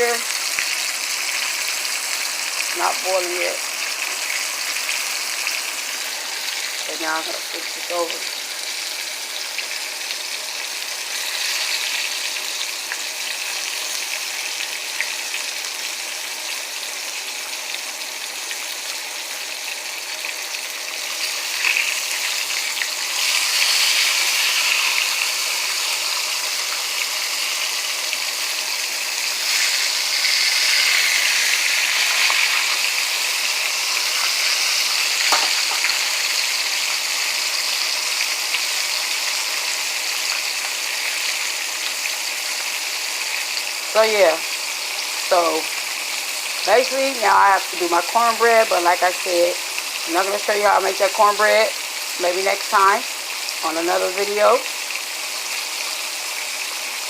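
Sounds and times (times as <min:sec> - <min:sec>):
ribs sizzling in hot oil: 0:00.0 - 0:57.0.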